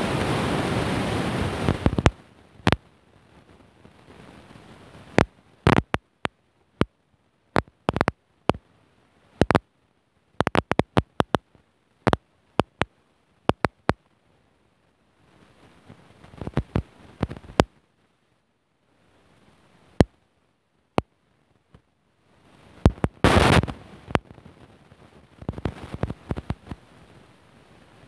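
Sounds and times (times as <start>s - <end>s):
faint hiss: 0.0s - 28.0s.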